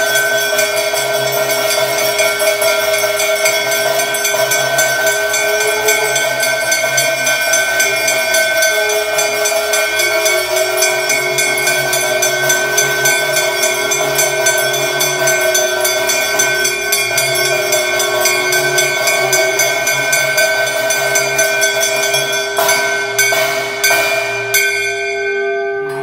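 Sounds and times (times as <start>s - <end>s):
temple bells ringing: 0.0s - 26.0s.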